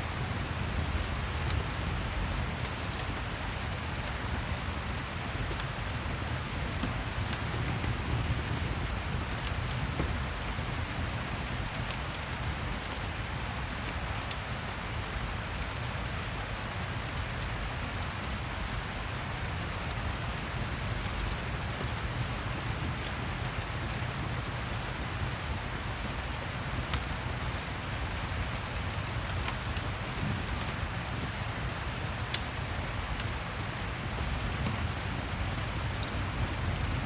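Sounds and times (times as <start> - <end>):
fireplace crackling: 0.0 - 37.0
steady rain falling: 0.0 - 37.0.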